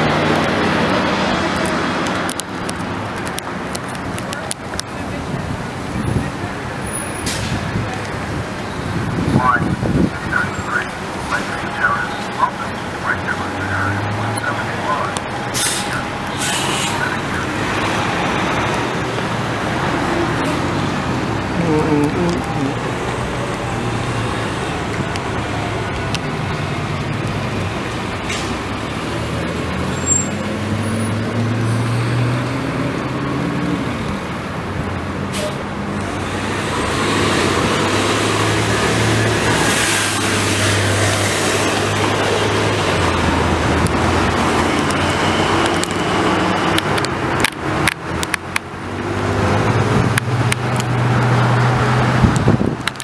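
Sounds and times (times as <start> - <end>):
bus passing: 0.0 - 53.0
road traffic engine hum: 0.0 - 53.0.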